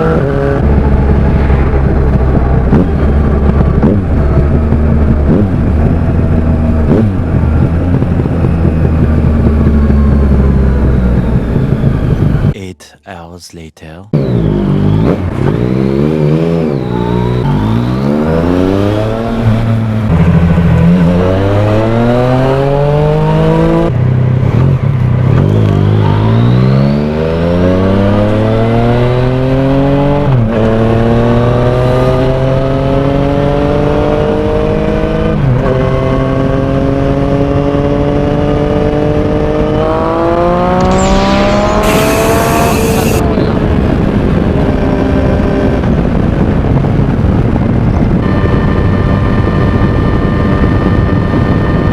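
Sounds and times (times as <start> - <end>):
motorcycle engine accelerating: 0.0 - 12.5, 14.2 - 51.9.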